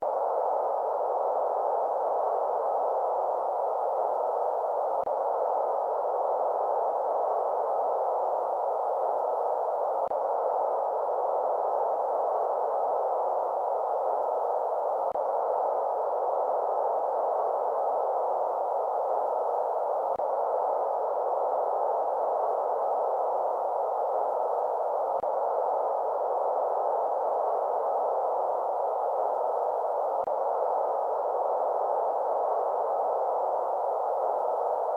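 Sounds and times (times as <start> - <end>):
steady white noise hiss: 0.0 - 34.9.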